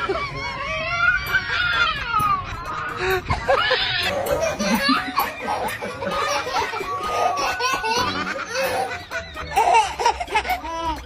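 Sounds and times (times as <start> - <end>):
person laughing heartily: 1.6 - 10.7.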